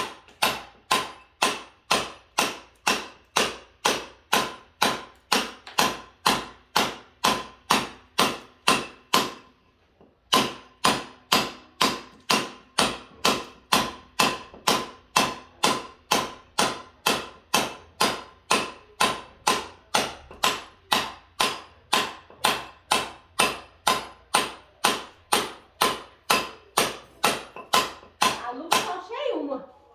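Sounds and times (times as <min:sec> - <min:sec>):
hammer blows ringing: 0:00.0 - 0:09.5, 0:10.3 - 0:29.0.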